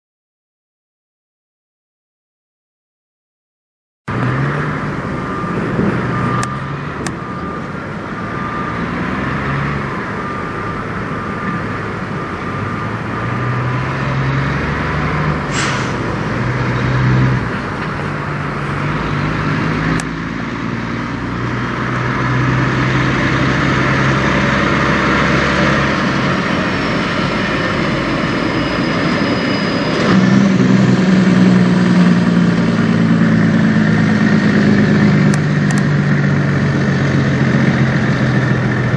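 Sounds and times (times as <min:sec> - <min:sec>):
truck diesel engine driving by: 0:04.1 - 0:38.9.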